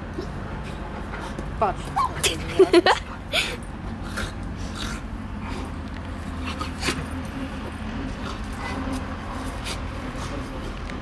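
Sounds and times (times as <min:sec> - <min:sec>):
distant traffic rumble: 0:00.0 - 0:11.0.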